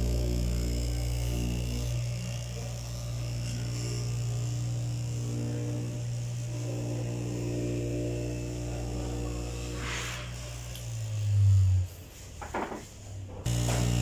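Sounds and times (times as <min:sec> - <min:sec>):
cloth cutting machine humming: 0:00.0 - 0:14.0.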